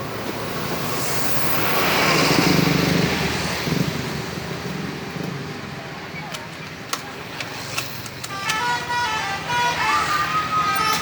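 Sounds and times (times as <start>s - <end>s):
bus driving past: 0.0s - 6.2s, 6.8s - 11.0s.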